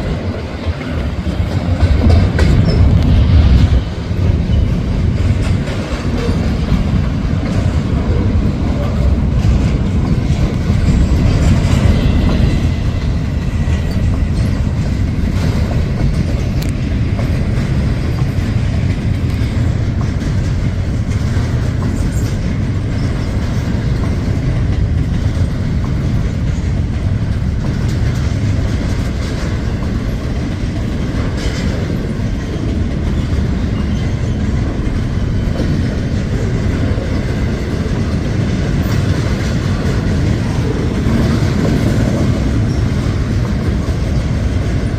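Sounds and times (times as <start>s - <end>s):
freight train rumbling past: 0.0s - 44.9s
wheels clacking over rails: 0.0s - 44.9s.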